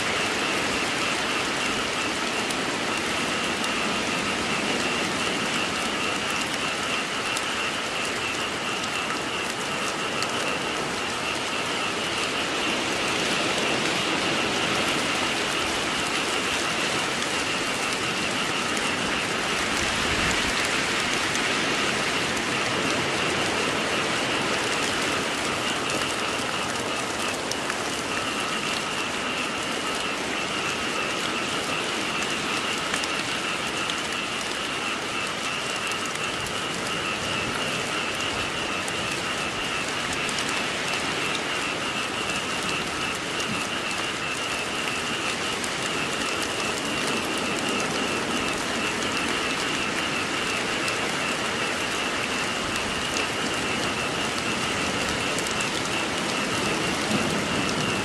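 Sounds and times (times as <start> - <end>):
frog chorus: 0.0 - 58.0
rain falling: 0.0 - 58.0.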